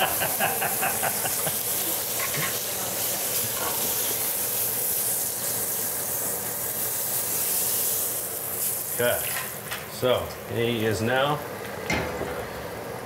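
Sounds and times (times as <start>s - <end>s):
steak sizzling in a skillet: 0.0s - 13.0s.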